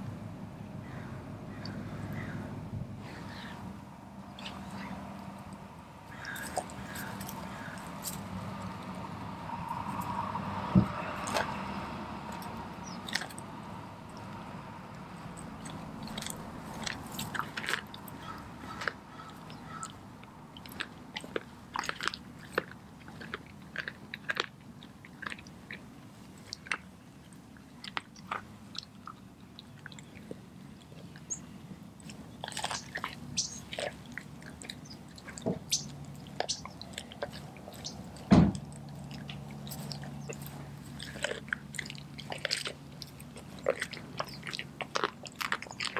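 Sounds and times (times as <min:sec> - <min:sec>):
dog chewing with crunches: 0:04.3 - 0:10.2, 0:10.8 - 0:45.9.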